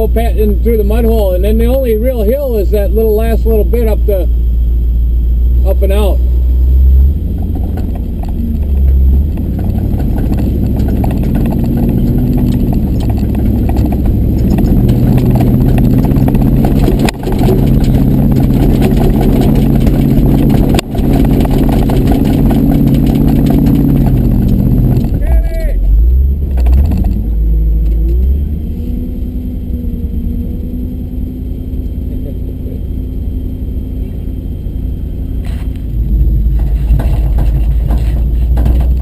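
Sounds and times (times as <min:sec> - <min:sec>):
truck engine running: 0:00.0 - 0:39.0
vehicle rattling over bumps: 0:00.0 - 0:39.0.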